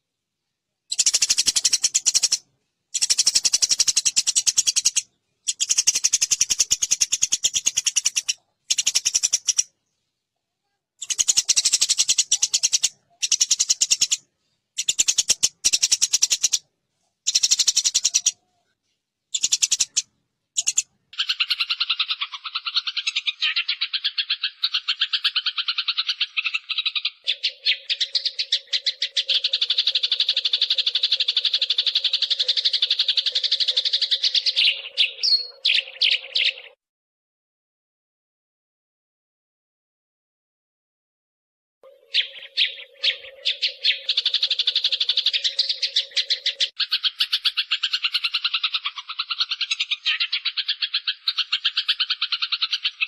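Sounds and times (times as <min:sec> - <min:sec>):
sparrows chattering harshly: 0:00.9 - 0:09.7, 0:11.0 - 0:16.7, 0:17.3 - 0:18.4, 0:19.3 - 0:36.8, 0:41.9 - 0:53.0.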